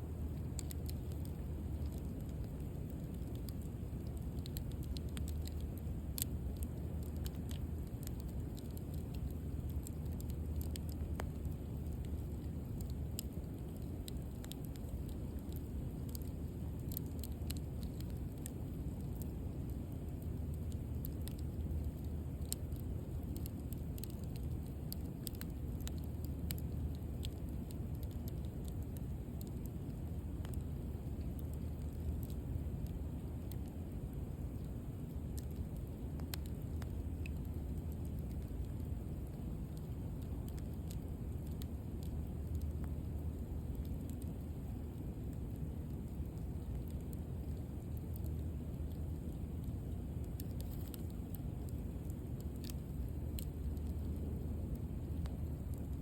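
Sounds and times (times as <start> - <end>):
fire crackling and popping: 0.0 - 56.0
wood fire burning: 0.0 - 56.0.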